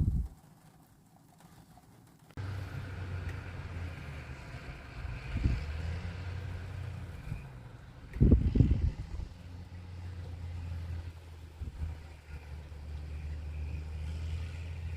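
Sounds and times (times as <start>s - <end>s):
vehicle rumble with hum: 2.2s - 14.9s.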